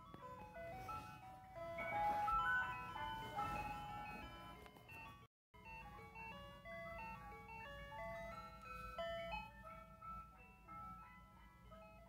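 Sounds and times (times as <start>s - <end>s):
electronic toy jingle: 0.0s - 12.0s.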